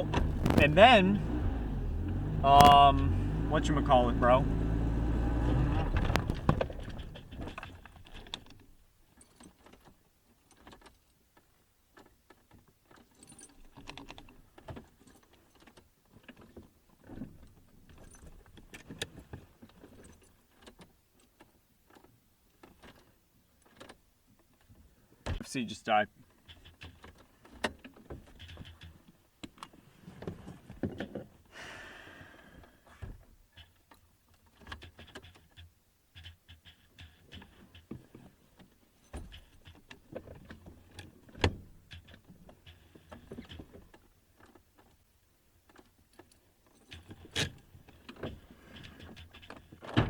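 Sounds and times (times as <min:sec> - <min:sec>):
clicks rattles and knocks of handling: 0:00.0 - 0:00.9, 0:05.9 - 0:25.4, 0:26.2 - 0:31.4, 0:33.0 - 0:50.0.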